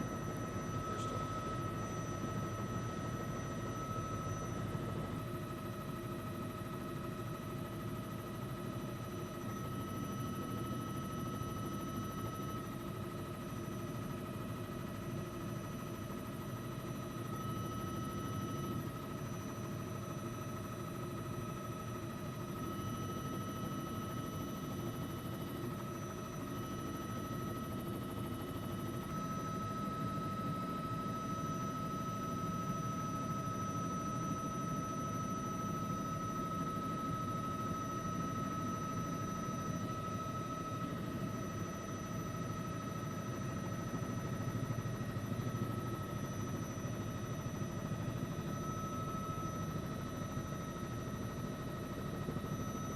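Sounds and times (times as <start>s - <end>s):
helicopter rotor and engine drone: 0.0s - 52.9s.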